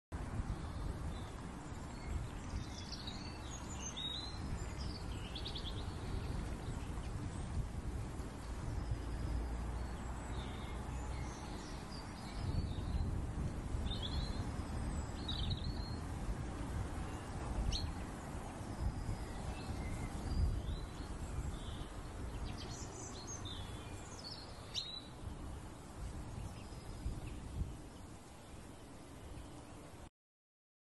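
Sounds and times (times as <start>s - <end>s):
low background noise: 0.2s - 30.1s
birds chirping: 0.3s - 30.0s.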